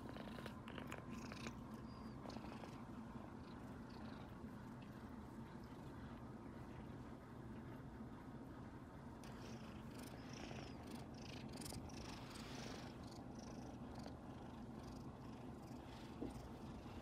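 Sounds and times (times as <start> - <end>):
kitten purring: 0.0 - 7.0, 9.2 - 17.0.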